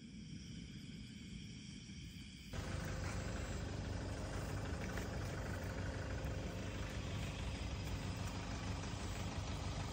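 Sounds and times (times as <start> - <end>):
low engine-like rumble: 0.0 - 9.9.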